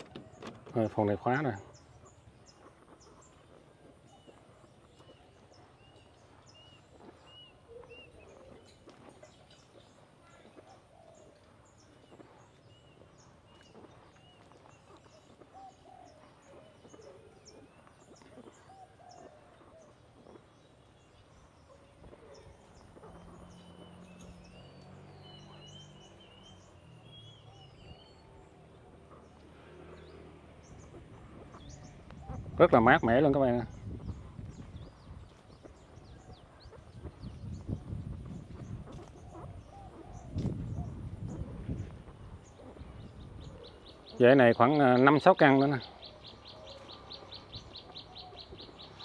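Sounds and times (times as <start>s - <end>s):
bird chirping: 0.0s - 49.0s
higher bird chirps: 0.0s - 49.0s.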